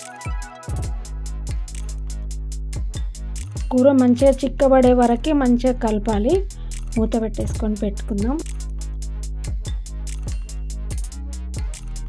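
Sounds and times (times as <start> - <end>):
drum beat: 0.6 - 11.8
deep held bass: 0.8 - 11.7.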